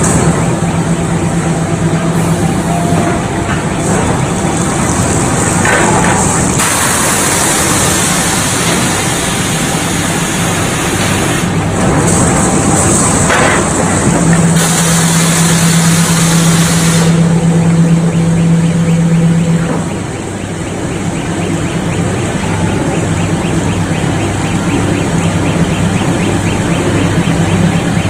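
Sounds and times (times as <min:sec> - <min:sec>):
machinery hum: 0:00.0 - 0:28.0.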